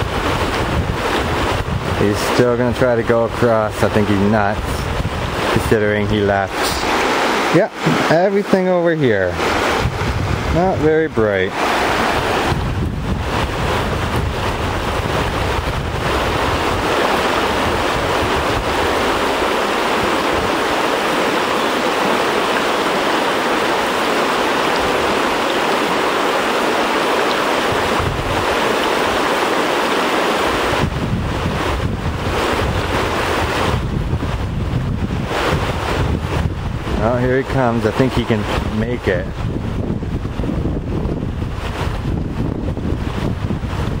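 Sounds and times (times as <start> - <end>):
river water rushing over riffles: 0.0 - 44.0
wind buffeting microphone: 0.0 - 44.0.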